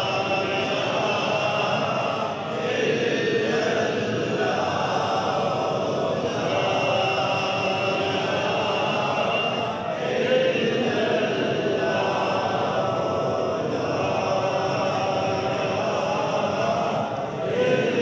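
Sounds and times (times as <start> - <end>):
men chanting: 0.0 - 18.0.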